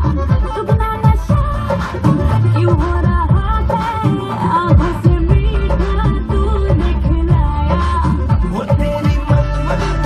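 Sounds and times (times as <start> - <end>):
film song music with deep drums: 0.0 - 10.0.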